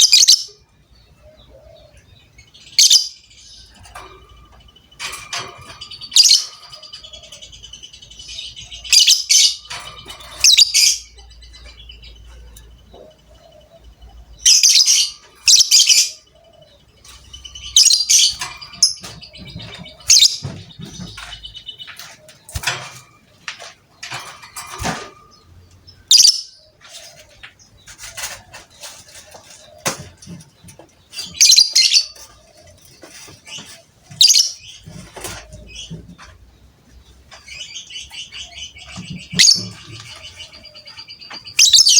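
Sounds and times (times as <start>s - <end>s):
bird chirps: 0.0s - 41.9s.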